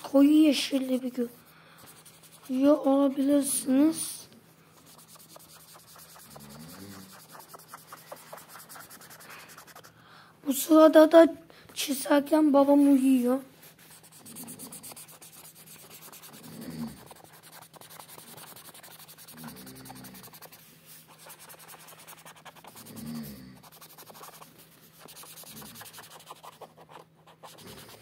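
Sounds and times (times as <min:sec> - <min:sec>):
marker scribbling on paper: 0:00.0 - 0:04.2, 0:04.8 - 0:09.9, 0:13.6 - 0:28.0.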